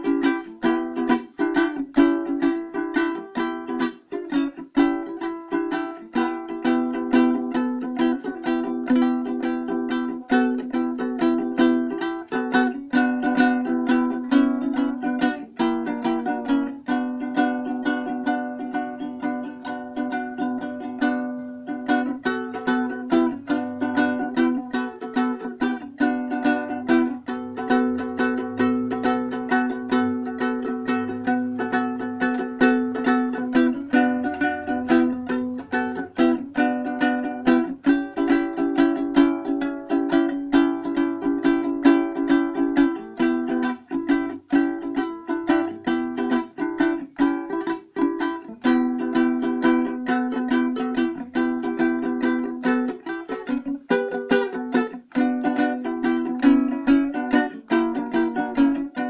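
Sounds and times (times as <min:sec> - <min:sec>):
plucked lute strummed fast: 0:00.0 - 0:59.0.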